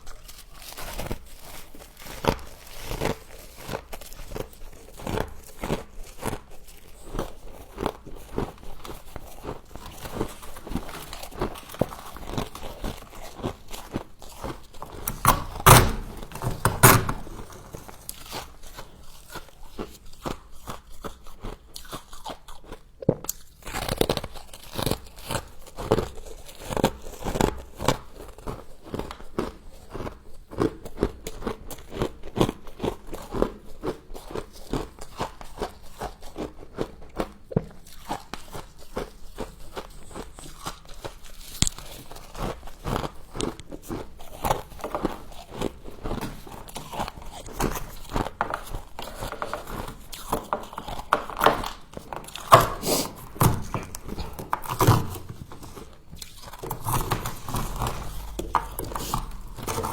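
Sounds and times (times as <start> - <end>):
frost being crunched and chewed: 0.0 - 16.7, 17.3 - 59.9.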